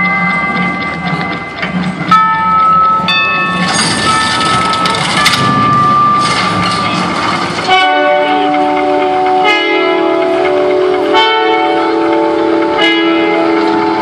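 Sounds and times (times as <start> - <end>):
clock chime bells striking: 0.0 - 14.0.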